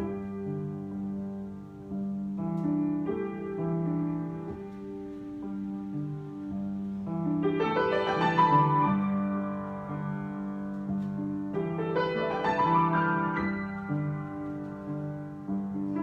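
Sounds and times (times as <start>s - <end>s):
solo piano improvisation: 0.0s - 16.0s.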